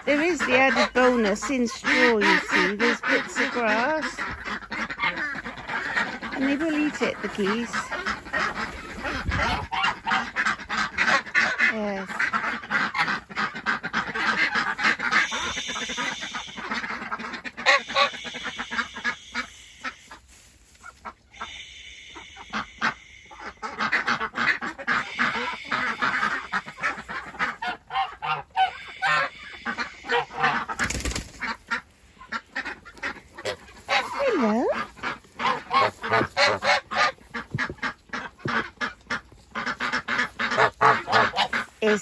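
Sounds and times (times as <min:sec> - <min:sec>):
ducks quacking: 0:00.0 - 0:42.0
geese honking: 0:00.0 - 0:42.0.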